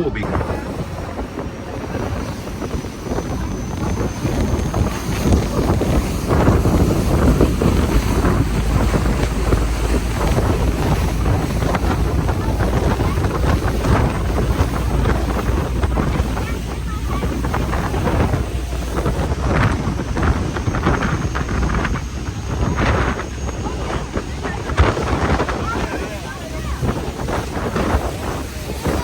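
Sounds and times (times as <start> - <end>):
ferry diesel engines rumbling: 0.0 - 29.0
water rushing past hull: 0.0 - 29.0
wind buffeting microphone: 0.0 - 29.0.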